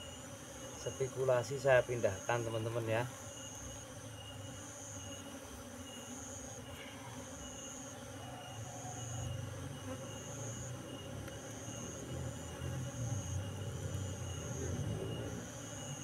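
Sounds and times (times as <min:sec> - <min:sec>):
honeybees buzzing: 0:00.0 - 0:16.0
insect chirping in high pulses: 0:00.0 - 0:16.0.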